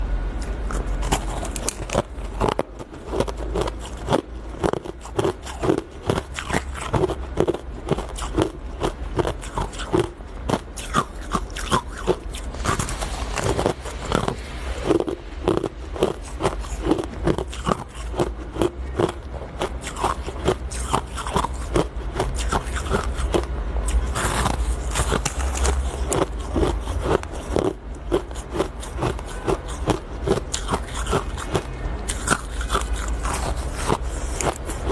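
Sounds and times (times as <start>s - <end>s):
teeth crunching ice: 0.4s - 34.9s.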